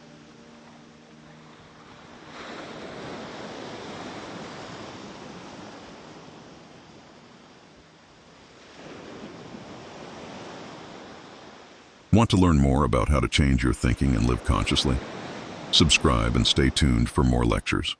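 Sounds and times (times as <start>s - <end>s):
ocean wave breaking: 0.6s - 7.7s, 8.4s - 17.5s.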